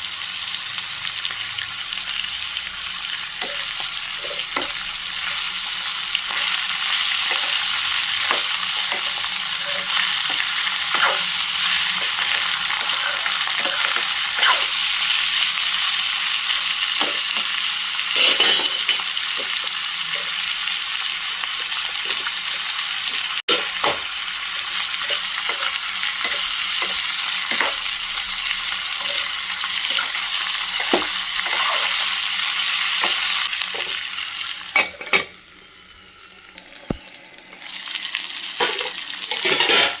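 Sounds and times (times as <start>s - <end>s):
vegetables sizzling in hot oil: 0.0s - 40.0s.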